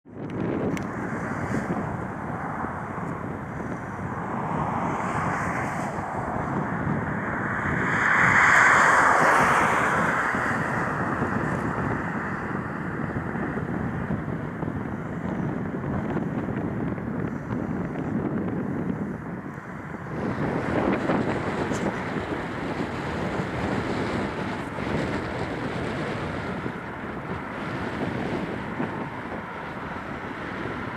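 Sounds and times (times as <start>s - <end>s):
jet engines rushing: 0.1s - 30.9s.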